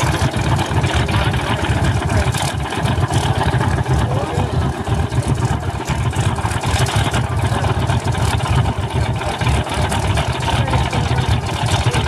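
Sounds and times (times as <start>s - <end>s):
propeller noise: 0.0s - 12.0s
radial aircraft engine running: 0.0s - 12.0s.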